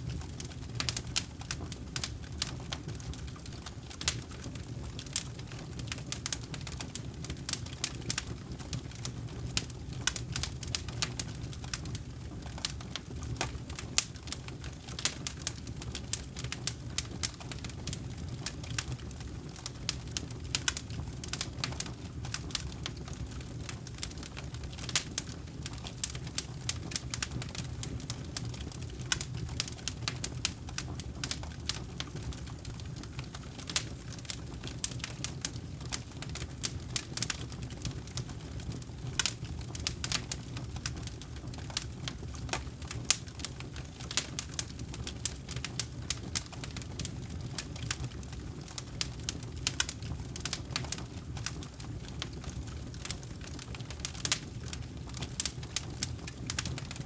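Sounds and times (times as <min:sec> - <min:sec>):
campfire crackling and popping: 0:00.0 - 0:57.0
flames burning: 0:00.0 - 0:57.0.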